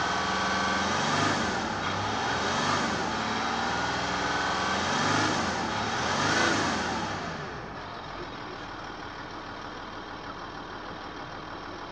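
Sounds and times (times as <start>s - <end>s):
diesel engine revving and idling: 0.0s - 11.9s.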